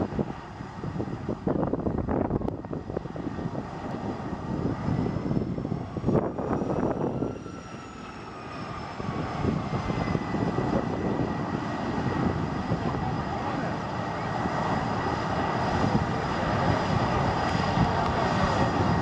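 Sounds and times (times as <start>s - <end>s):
jet engines whining at taxi power: 0.0s - 19.0s.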